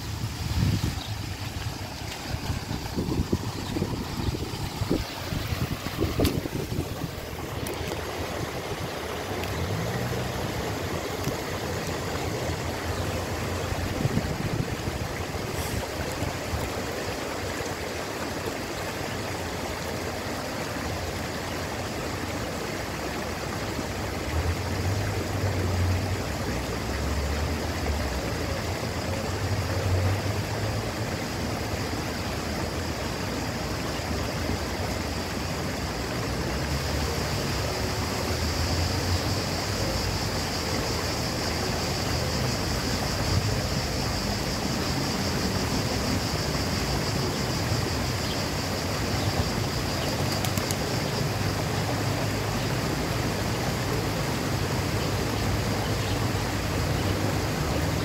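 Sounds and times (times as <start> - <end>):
water splashing down rock waterfall: 0.0 - 58.0.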